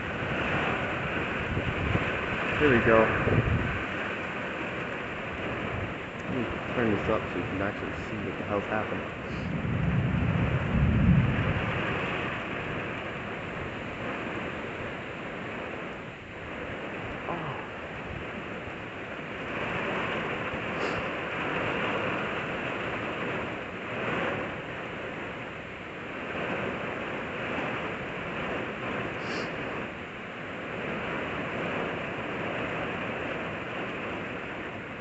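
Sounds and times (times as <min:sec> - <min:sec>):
storm wind gusting: 0:00.0 - 0:35.0.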